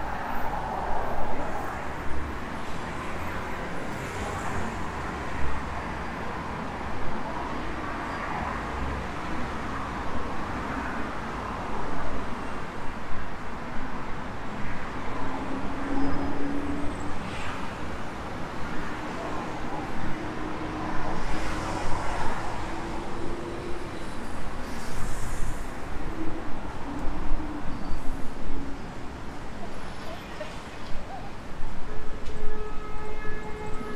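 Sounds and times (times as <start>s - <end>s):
road traffic noise: 0.0s - 33.9s.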